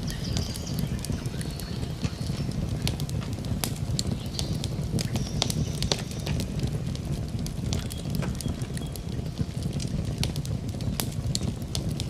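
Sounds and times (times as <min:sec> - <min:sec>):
burning wood crackling and popping: 0:00.0 - 0:12.0
campfire flames rumbling: 0:00.0 - 0:12.0.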